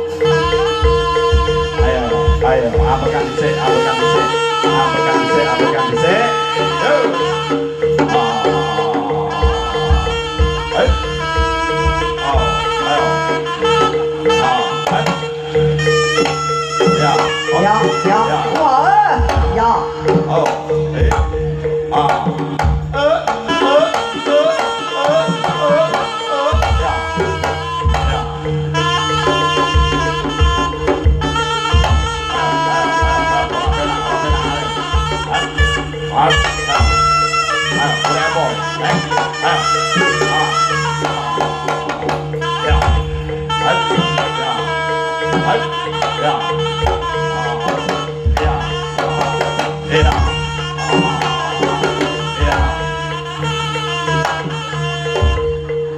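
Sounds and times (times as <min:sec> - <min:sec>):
bright sustained melody: 0:00.0 - 0:55.9
gamelan music: 0:00.0 - 0:55.9
hand drums: 0:00.0 - 0:55.9.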